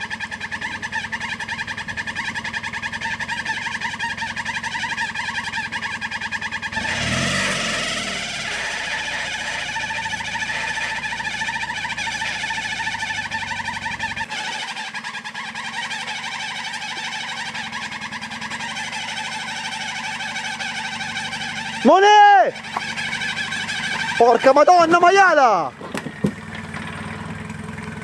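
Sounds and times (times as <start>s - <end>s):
truck engine running under load: 0.0s - 28.0s.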